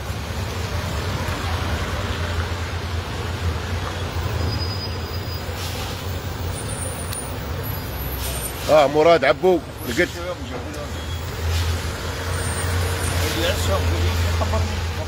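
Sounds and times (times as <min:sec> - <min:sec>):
outdoor noise: 0:00.0 - 0:15.0.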